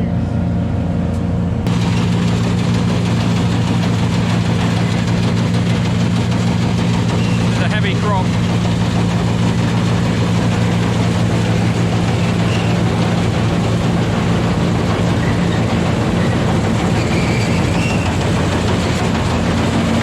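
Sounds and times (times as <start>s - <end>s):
combine harvester engine humming: 0.0s - 20.0s
threshing mechanism rattling: 1.7s - 20.0s.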